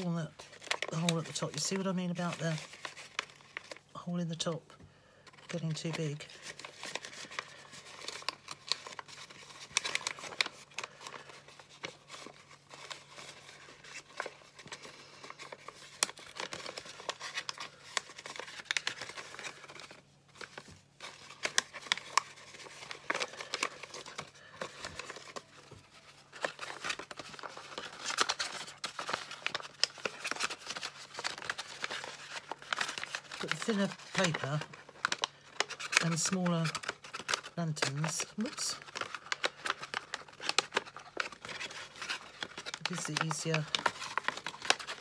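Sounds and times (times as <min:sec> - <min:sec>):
stiff paper crinkling: 0:00.0 - 0:45.0
paper clicks and scrapes: 0:05.3 - 0:45.0.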